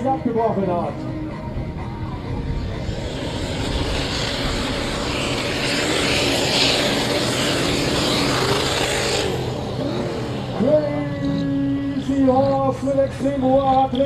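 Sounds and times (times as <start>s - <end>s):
tractor engine at high revs: 2.5s - 14.0s.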